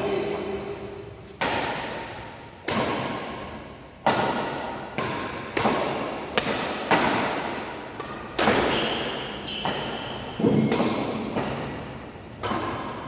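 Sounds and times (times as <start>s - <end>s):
rackets hitting shuttlecock: 1.2s - 13.0s.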